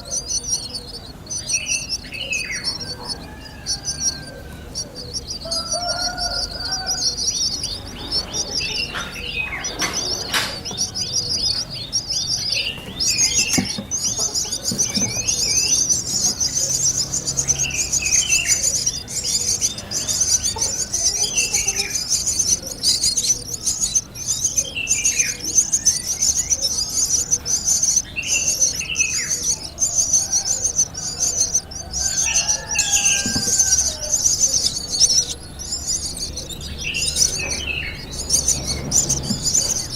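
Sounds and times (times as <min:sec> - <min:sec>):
birds chittering: 0:00.0 - 0:39.9.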